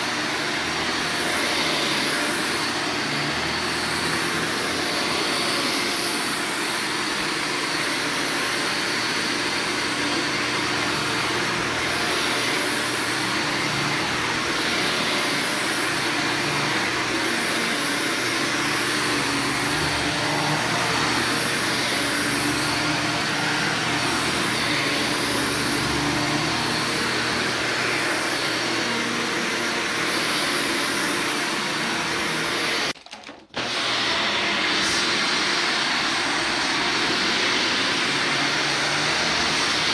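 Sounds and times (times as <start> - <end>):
vacuum cleaner on carpet: 0.0 - 39.9.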